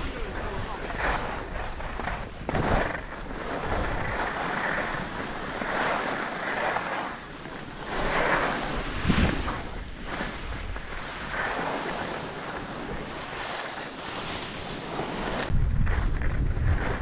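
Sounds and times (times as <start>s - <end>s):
skis scraping over snow: 0.0s - 17.0s
wind buffeting microphone: 0.0s - 17.0s.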